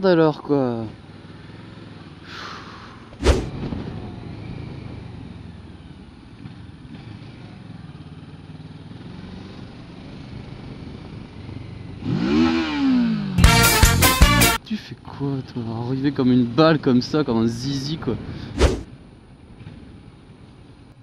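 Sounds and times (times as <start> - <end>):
motorcycle engine running: 0.0 - 14.6, 15.5 - 21.0.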